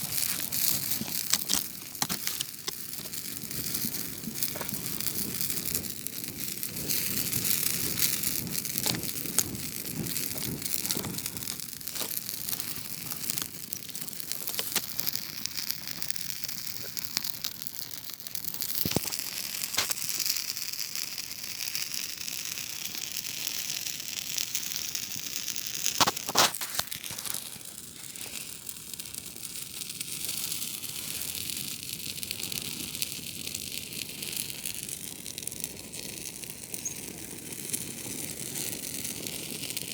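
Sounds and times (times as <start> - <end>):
campfire crackling: 0.0 - 39.9
sharp pops of burning wood: 0.0 - 39.9.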